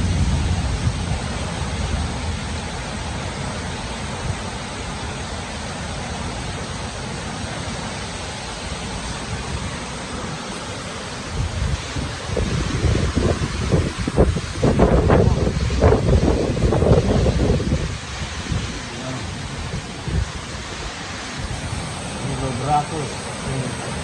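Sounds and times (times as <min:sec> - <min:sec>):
storm rain and wind: 0:00.0 - 0:24.0
wind gusts rumbling on microphone: 0:00.0 - 0:24.0.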